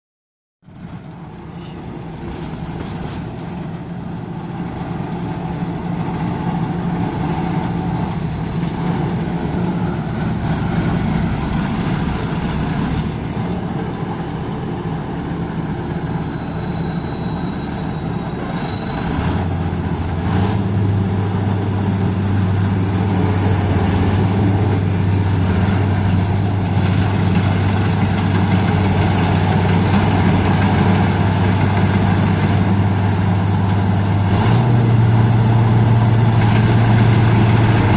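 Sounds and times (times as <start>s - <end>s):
combine harvester engine: 0.6s - 37.9s.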